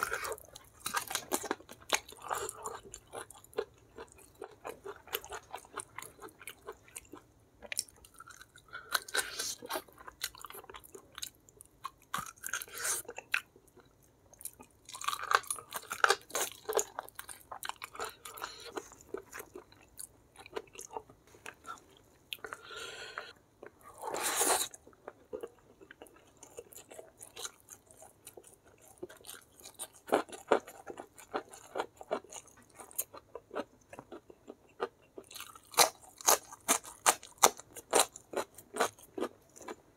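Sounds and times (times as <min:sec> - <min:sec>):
person chewing and crunching food: 0:00.0 - 0:39.9.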